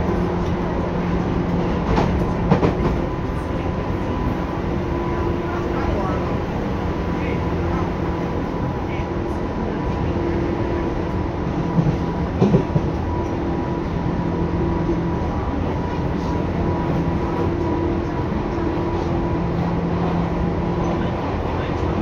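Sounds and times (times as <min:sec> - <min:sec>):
train rolling rumble: 0:00.0 - 0:22.0.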